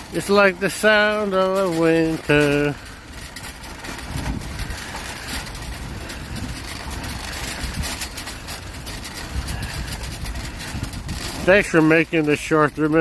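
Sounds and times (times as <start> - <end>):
shopping cart wheels rumbling: 0.0 - 13.0
shopping carts rattling: 0.0 - 13.0.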